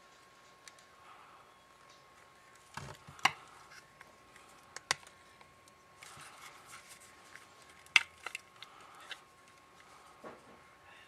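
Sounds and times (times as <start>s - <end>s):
faint high hum: 0.0s - 11.0s.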